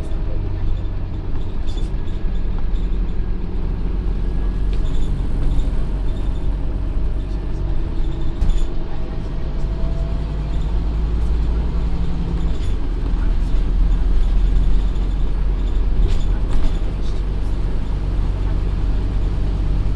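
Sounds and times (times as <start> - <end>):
bus diesel engine rumbling: 0.0 - 19.9.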